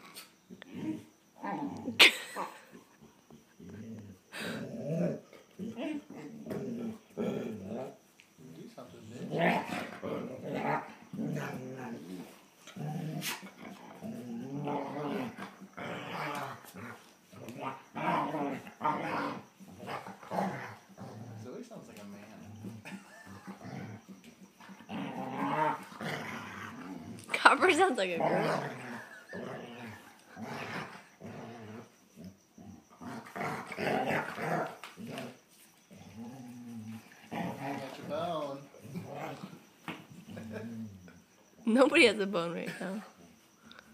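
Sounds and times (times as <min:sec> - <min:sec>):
dogs play-growling: 0:00.0 - 0:41.6.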